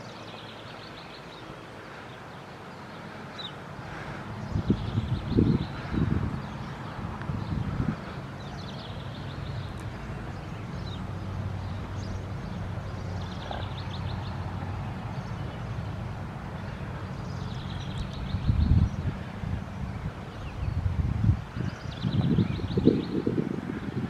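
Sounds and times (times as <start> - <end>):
wind gusts on microphone: 3.7 - 24.0.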